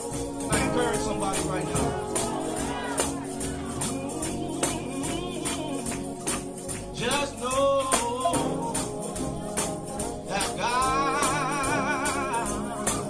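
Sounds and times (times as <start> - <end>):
tambourine beat: 0.0 - 13.0
gospel singing over a band: 0.1 - 9.6, 10.2 - 13.0.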